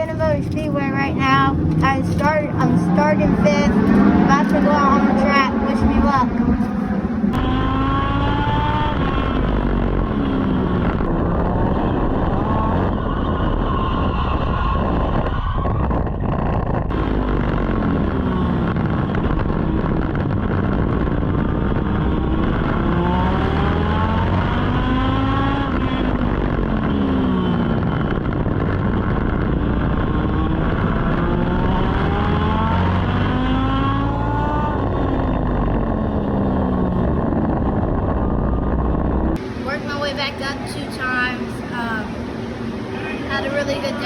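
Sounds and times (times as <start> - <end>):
race car engine droning: 0.0 - 44.0.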